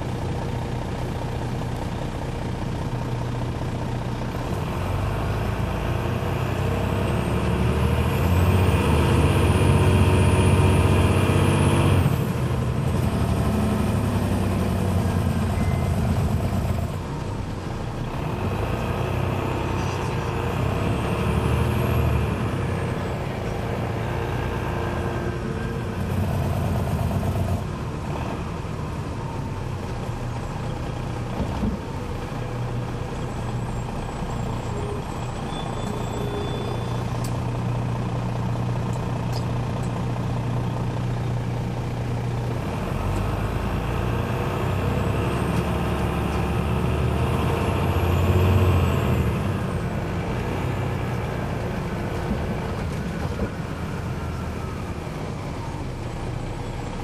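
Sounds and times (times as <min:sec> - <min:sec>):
bus engine with high whine: 0:00.0 - 0:57.0.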